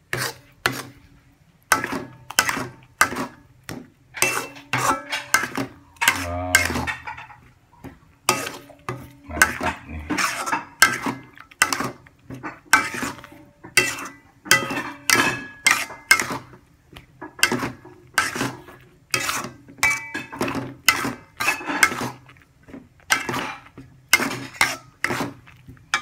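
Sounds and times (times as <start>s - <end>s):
metal spatula scraping a wok: 0.0s - 1.1s, 1.7s - 3.5s, 4.2s - 7.5s, 8.2s - 16.6s, 17.2s - 22.4s, 23.0s - 26.0s.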